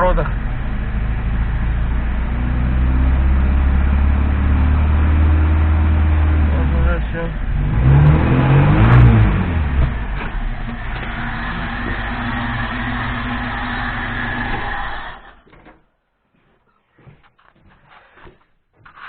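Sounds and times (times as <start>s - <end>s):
car engine idling: 0.0s - 15.5s.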